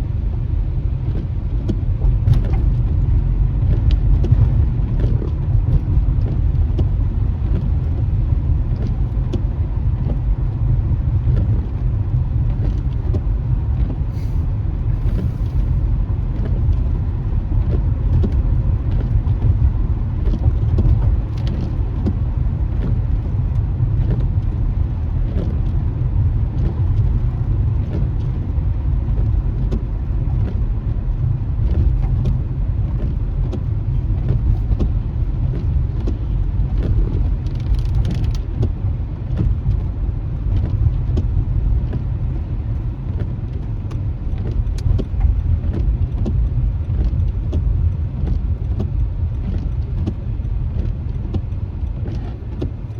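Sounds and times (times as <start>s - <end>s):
car driving on wet road: 0.0s - 52.9s.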